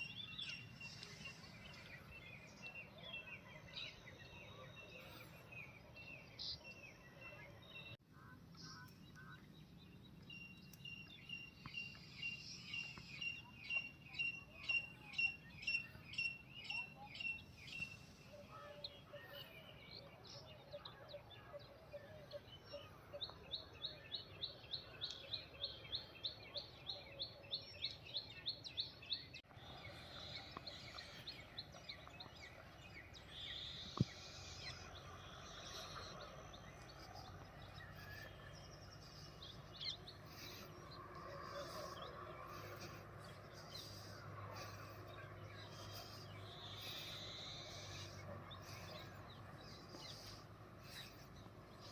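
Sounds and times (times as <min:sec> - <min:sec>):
birds calling: 0:08.6 - 0:51.9.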